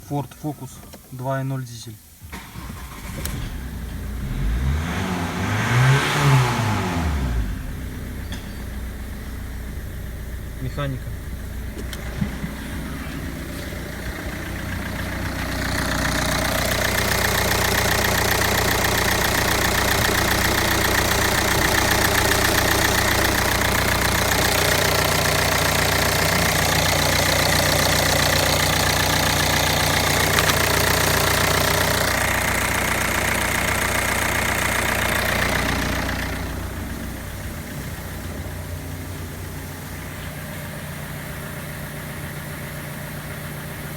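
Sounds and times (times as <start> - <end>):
diesel engine running: 2.3 - 43.9.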